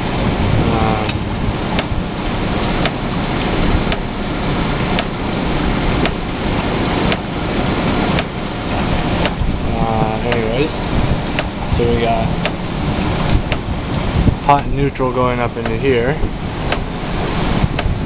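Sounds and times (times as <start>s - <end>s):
cooling tower rushing: 0.0s - 18.0s.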